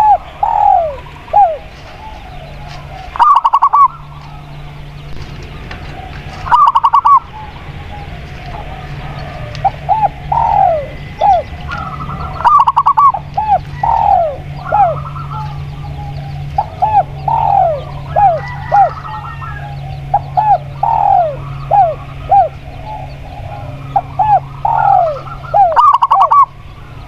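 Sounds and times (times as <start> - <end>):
dove clipped notes: 0.0 - 27.0
dove cooing: 0.0 - 27.0.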